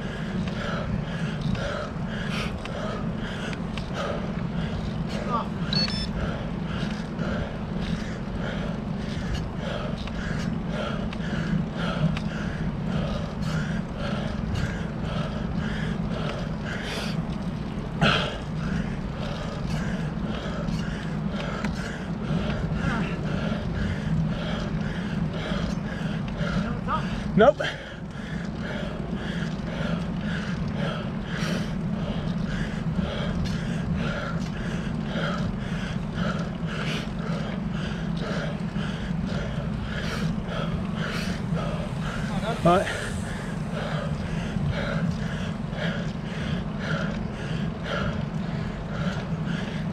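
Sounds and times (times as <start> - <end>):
cyclist breathing hard: 0.0 - 49.9
low rumble of tyres and wind: 0.0 - 49.9.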